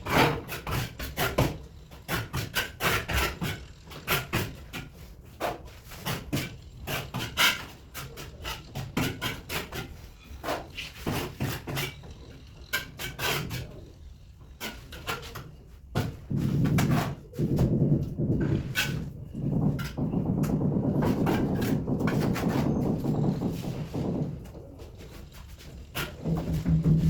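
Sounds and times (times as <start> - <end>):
scraping on marble: 0.0 - 27.0.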